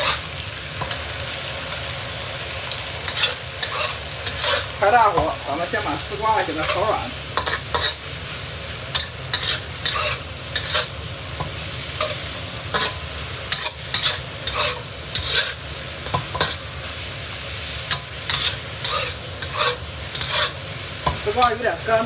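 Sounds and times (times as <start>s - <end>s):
metal spatula scraping a wok: 0.0s - 2.0s, 2.7s - 21.6s
frying sizzle: 0.0s - 22.0s.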